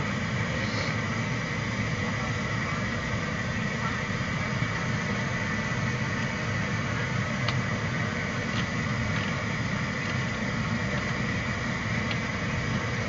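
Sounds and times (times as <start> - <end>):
aircraft engine hum and hiss: 0.0 - 13.0.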